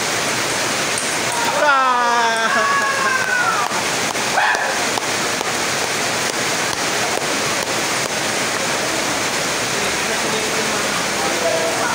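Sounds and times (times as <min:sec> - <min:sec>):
rain falling: 0:00.0 - 0:11.9.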